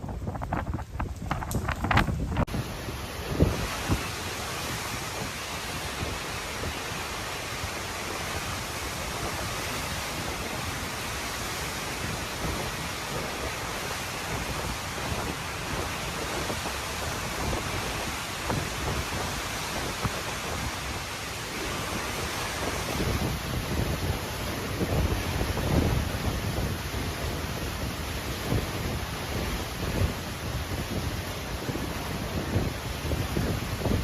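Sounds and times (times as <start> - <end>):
gusts buffeting microphone: 0.0 - 34.0
wind and rain roaring: 0.0 - 34.0.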